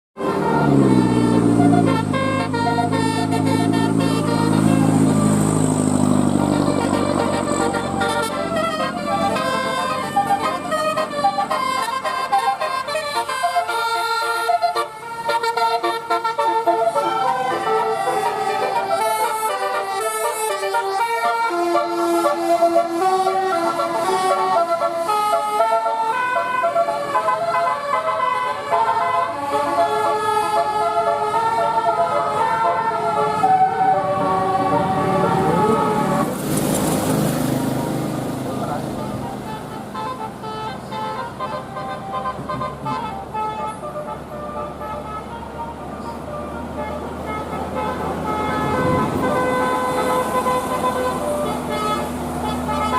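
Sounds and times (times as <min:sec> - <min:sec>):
bus musical horn playing a tune: 0:00.2 - 0:52.9.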